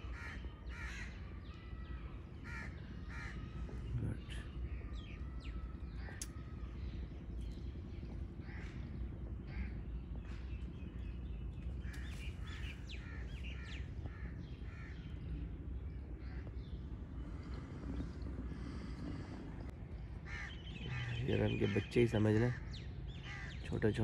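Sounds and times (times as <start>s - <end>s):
birds chirping and calling: 0.0s - 24.0s
low background rumble: 0.0s - 24.0s.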